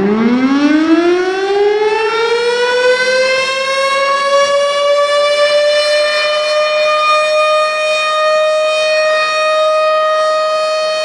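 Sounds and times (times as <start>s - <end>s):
warning siren wailing: 0.0s - 11.0s.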